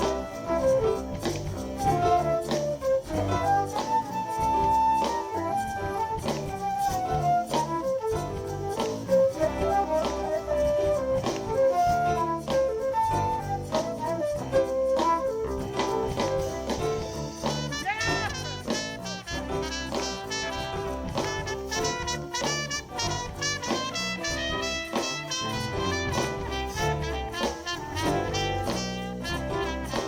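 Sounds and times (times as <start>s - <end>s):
soul band playing: 0.0s - 30.0s
steady drum beat: 0.0s - 30.0s.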